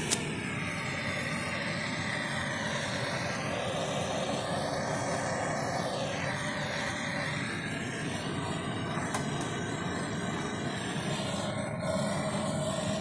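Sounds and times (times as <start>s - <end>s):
propane torch hissing: 0.0s - 13.0s.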